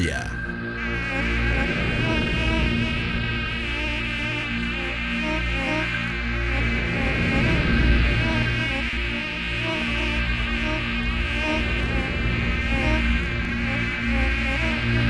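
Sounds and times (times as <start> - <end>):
mosquitoes buzzing: 0.9 - 15.0.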